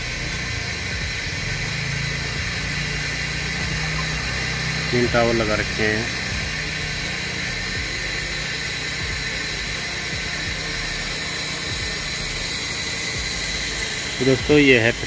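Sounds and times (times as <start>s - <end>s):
constant hiss: 0.0s - 15.0s
low hum: 0.0s - 15.0s.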